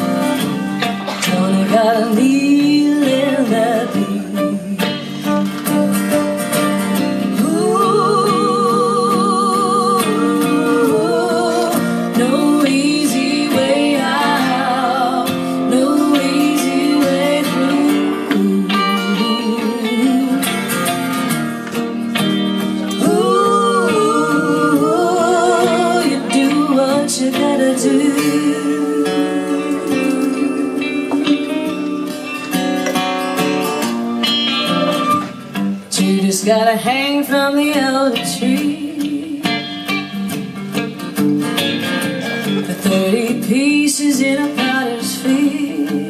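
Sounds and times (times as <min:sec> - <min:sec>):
guitars strumming chords: 0:00.0 - 0:46.0.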